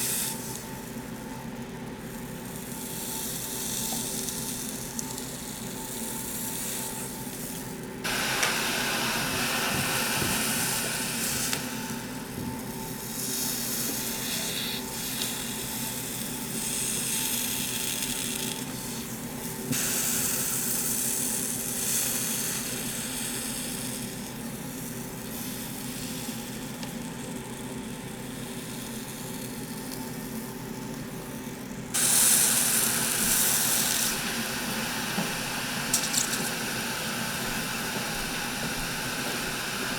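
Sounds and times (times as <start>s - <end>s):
hot knife sizzling in dough: 0.0s - 39.9s.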